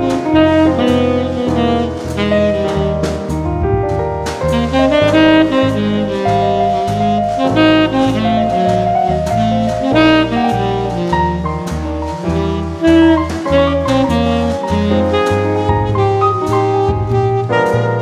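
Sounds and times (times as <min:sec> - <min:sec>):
bass line: 0:00.0 - 0:18.0
drums: 0:00.0 - 0:18.0
saxophone melody: 0:00.0 - 0:18.0.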